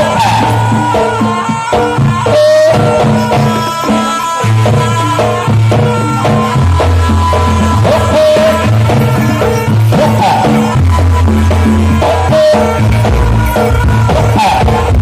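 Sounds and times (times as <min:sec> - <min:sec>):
drums and percussion: 0:00.0 - 0:15.0
heavy bass line: 0:00.0 - 0:15.0
quick melodic notes: 0:02.8 - 0:15.0.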